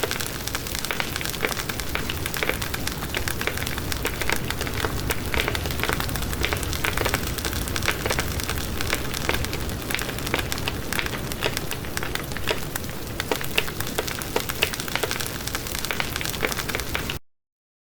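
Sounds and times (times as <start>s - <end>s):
wood fire crackling: 0.0s - 17.2s.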